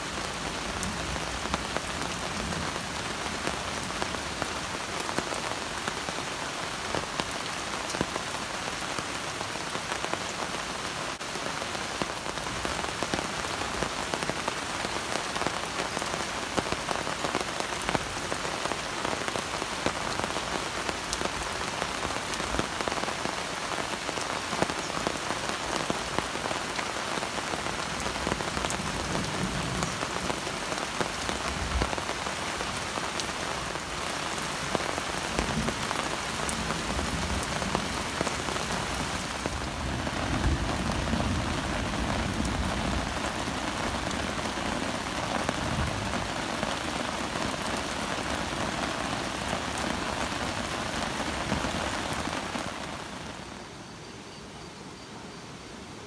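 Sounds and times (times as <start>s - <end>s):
rain pattering: 0.0s - 53.8s.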